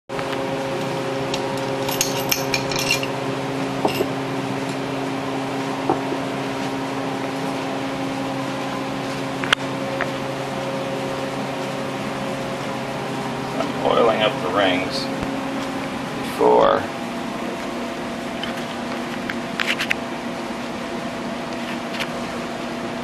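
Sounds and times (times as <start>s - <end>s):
steady background hum: 0.1s - 23.0s.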